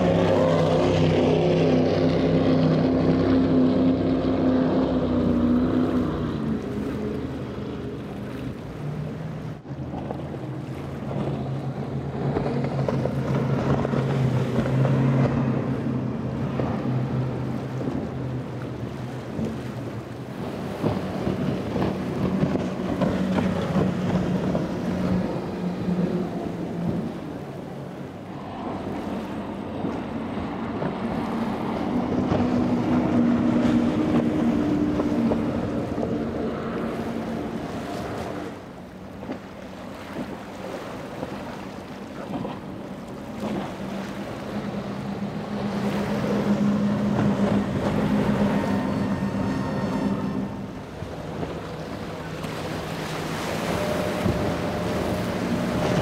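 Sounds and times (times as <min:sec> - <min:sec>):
boat engines droning: 0:00.0 - 0:56.0
rush of wind and water: 0:00.0 - 0:56.0.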